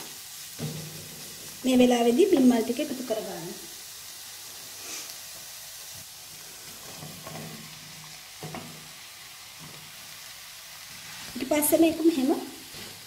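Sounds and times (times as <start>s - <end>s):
spices sizzling in a pan: 0.0s - 13.0s.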